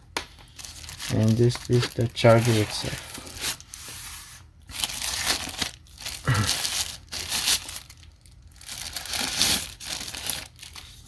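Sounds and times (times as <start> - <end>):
packaging crinkling and rustling: 0.1 - 11.0.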